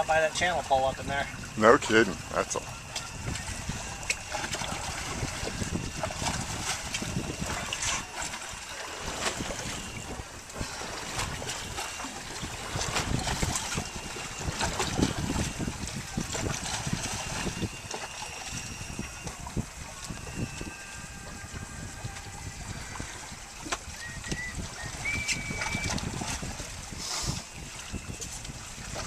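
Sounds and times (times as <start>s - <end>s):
water lapping against boat hull: 0.0s - 29.0s
wind buffeting microphone: 0.0s - 29.0s.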